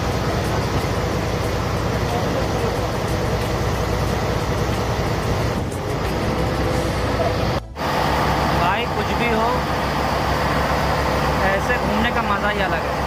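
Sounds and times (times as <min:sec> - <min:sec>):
boat engine running: 0:00.0 - 0:13.0
water rushing: 0:00.0 - 0:13.0.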